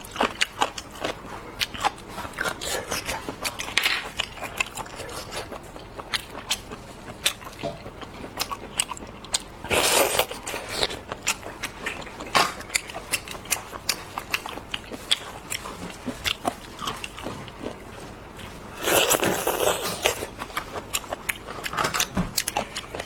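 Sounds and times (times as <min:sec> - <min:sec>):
biting and chewing seafood: 0:00.0 - 0:23.0.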